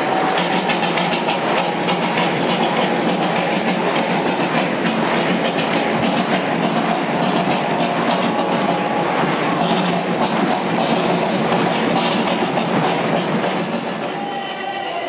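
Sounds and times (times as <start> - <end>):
stadium crowd cheering: 0.0 - 15.0.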